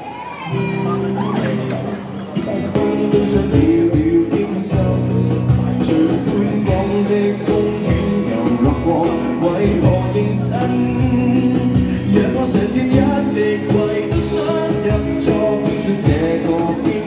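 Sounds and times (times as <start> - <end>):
guitar: 0.0 - 17.0
live band music: 0.7 - 17.0.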